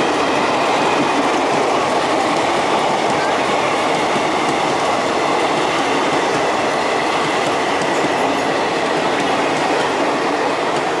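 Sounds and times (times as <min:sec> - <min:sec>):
clickety-clack of train bogies: 0:00.0 - 0:11.0
train wheels rushing on rail: 0:00.0 - 0:11.0.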